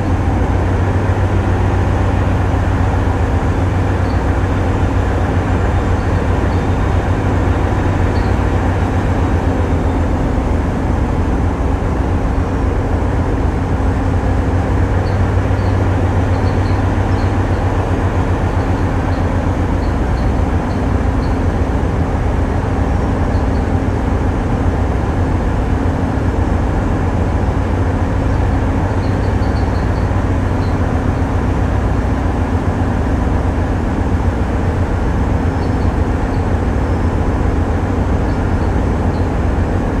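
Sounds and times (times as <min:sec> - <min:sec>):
boat diesel engines droning: 0:00.0 - 0:40.0.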